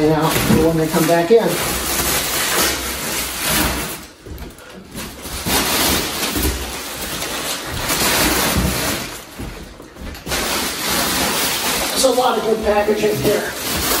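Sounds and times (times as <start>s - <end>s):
plastic packaging rustling: 0.0s - 14.0s.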